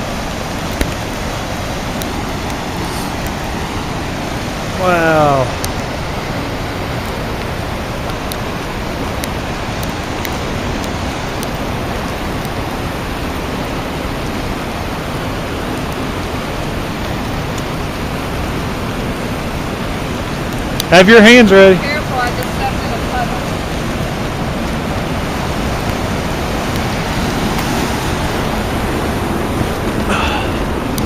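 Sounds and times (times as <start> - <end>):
fast-flowing water rushing: 0.0 - 31.0.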